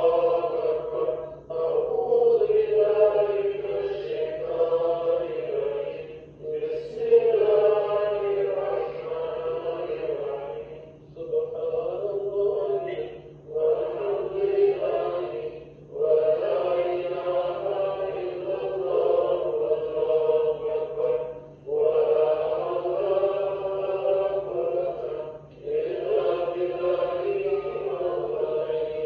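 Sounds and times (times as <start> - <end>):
voices chanting: 0.0 - 29.0.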